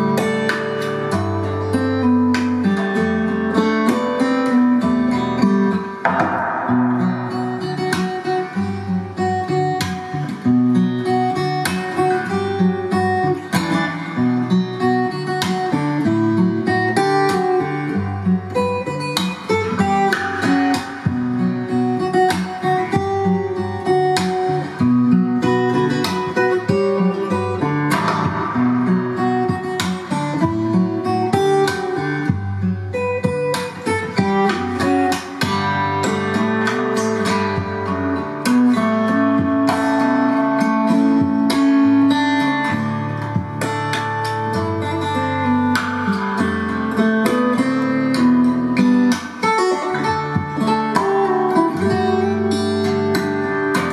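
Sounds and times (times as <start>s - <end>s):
acoustic guitar music: 0.0s - 53.9s.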